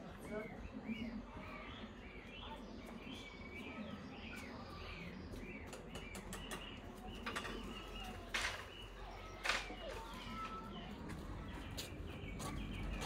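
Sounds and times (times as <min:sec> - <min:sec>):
small bird chirping: 0:00.1 - 0:13.0.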